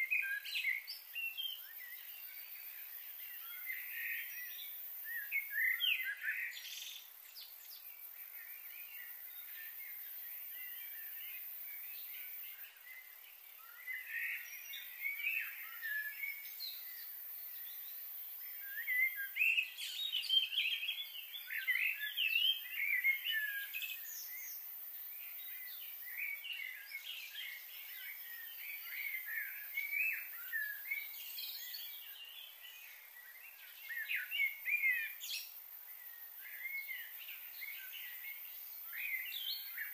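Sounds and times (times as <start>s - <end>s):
faint steady hiss: 0.0s - 39.9s
small birds chirping: 0.0s - 39.9s.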